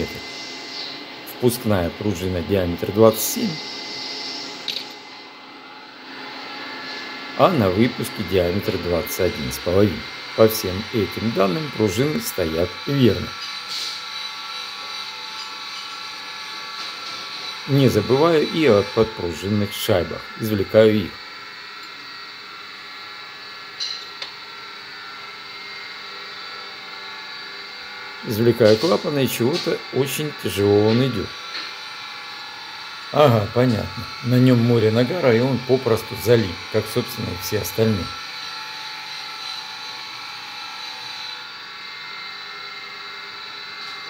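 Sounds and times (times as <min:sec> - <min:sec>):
workshop hum: 0:00.0 - 0:44.0.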